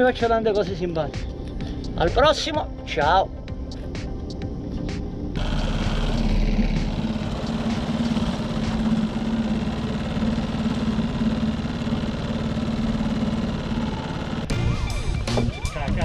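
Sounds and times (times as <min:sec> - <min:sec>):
outboard motor running steadily: 0:00.0 - 0:16.0.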